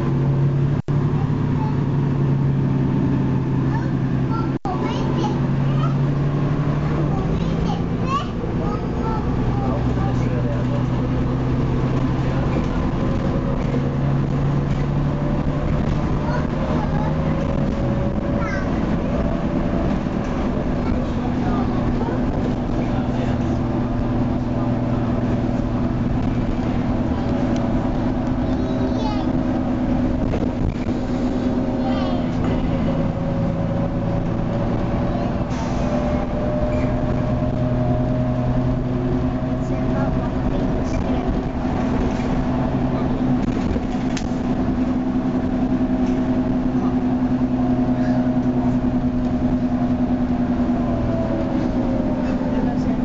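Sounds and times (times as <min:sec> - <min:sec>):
bus engine droning: 0:00.0 - 0:53.0
road rumble: 0:00.0 - 0:53.0.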